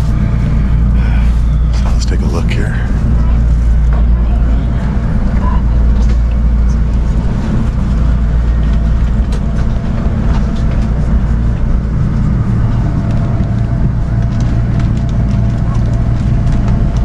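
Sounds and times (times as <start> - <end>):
train carriage rumble and hum: 0.0 - 17.0.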